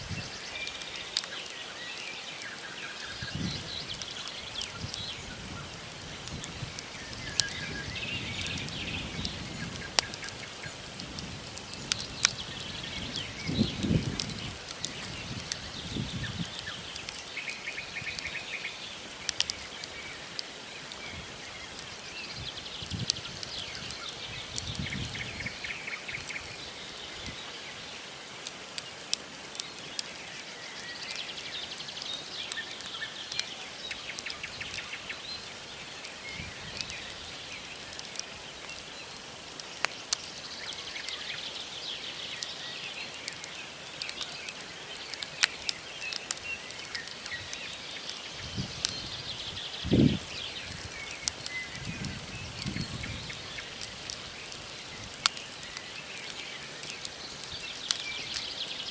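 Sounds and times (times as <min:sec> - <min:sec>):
small birds trilling: 0:00.0 - 0:28.2, 0:28.8 - 0:58.9
campfire crackling and popping: 0:00.0 - 0:58.9.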